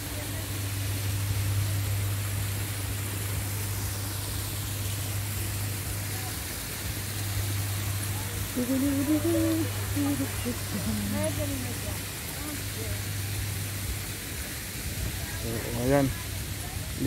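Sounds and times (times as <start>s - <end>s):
low hum: 0.0s - 16.2s
outdoor background hiss: 0.0s - 17.0s.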